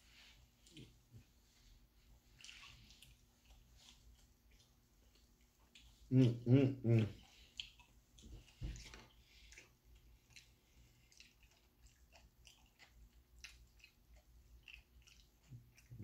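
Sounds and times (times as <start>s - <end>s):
person chewing: 0.1s - 16.0s.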